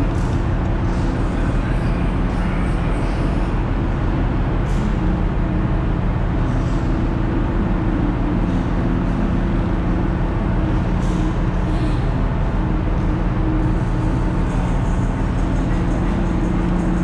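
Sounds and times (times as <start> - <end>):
loud machinery drone: 0.0 - 17.0
low hum: 0.0 - 17.0.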